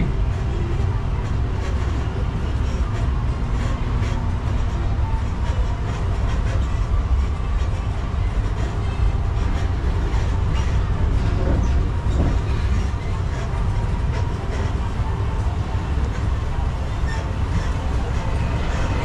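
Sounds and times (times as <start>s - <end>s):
tram rumbling: 0.0s - 19.0s.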